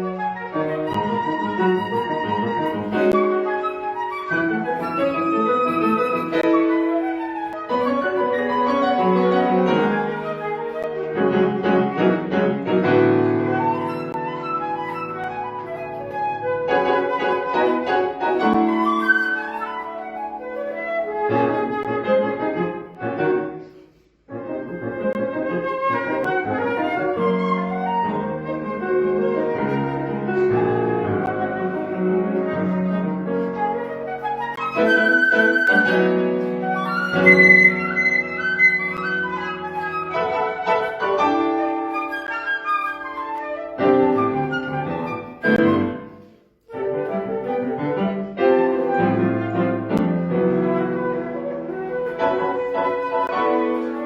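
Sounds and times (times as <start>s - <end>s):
flute and piano playing: 0.0s - 54.0s.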